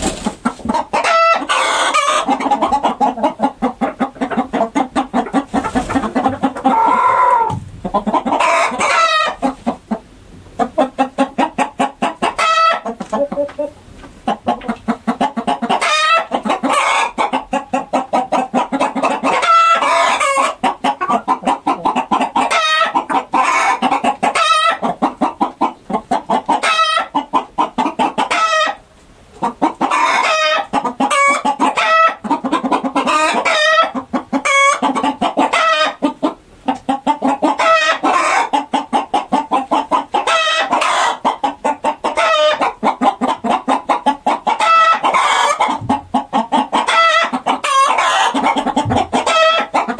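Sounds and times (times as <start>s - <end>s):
chicken cackles: 0.0s - 49.9s
chickens clucking: 0.0s - 49.9s.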